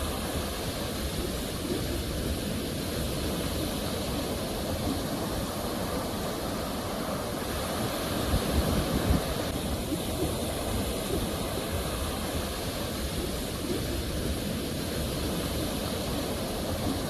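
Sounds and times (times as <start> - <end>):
ocean waves breaking on shore: 0.0 - 17.0.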